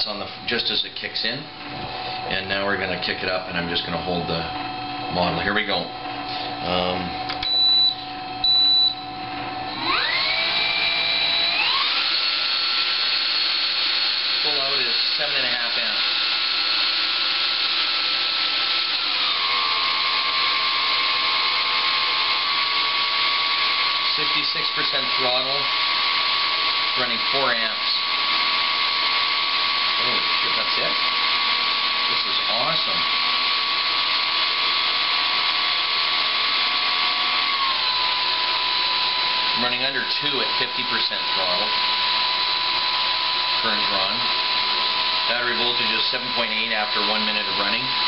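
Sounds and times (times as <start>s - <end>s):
electric motor propeller whir: 9.3s - 48.0s.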